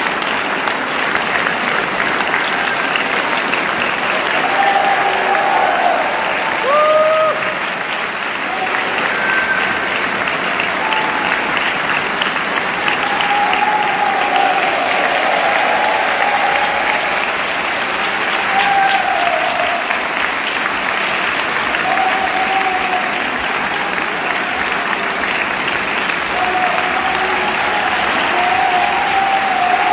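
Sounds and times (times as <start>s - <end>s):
audience applauding: 0.0s - 29.9s.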